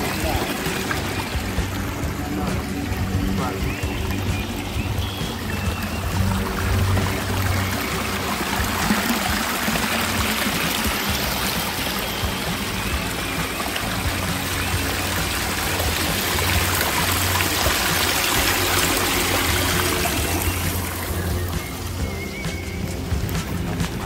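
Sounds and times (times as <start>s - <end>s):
small waterfall: 0.0s - 24.0s
water trickling over rocks: 0.0s - 24.0s.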